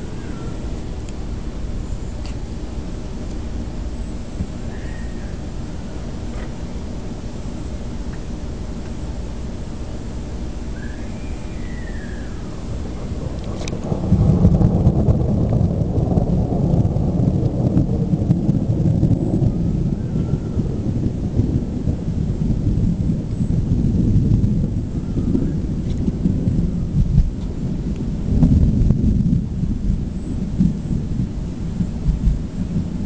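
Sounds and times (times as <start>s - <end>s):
rain hissing: 0.0s - 33.0s
thunder rumbling: 0.0s - 33.0s.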